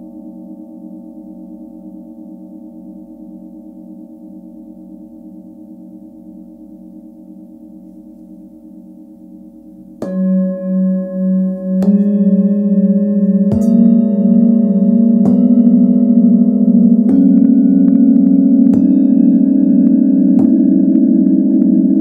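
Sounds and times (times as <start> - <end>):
singing bowls struck and ringing: 0.0 - 22.0.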